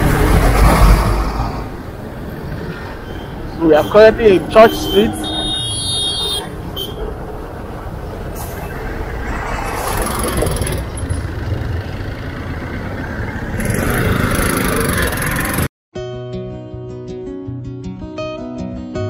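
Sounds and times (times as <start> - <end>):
road traffic rumble: 0.0 - 15.7.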